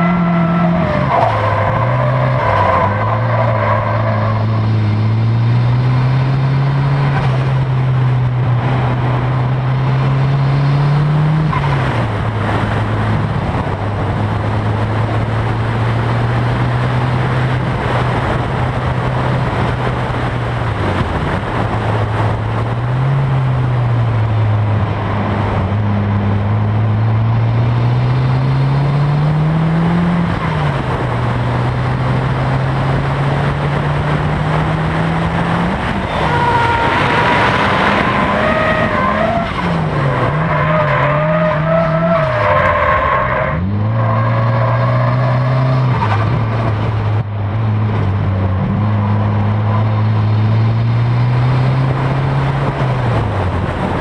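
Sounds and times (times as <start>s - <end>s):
road noise: 0.0s - 54.0s
turbocharged car engine revving: 0.0s - 54.0s
wind noise: 0.0s - 54.0s.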